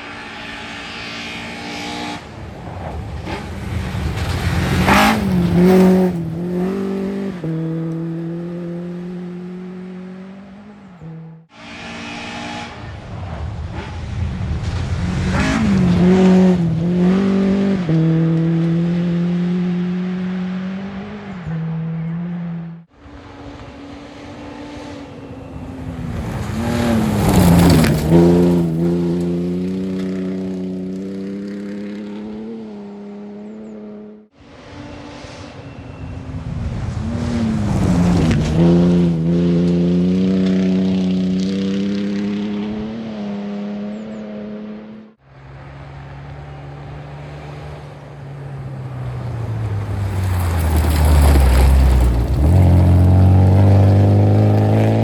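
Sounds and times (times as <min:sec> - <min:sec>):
rally cars passing at full speed: 0:00.0 - 0:55.0.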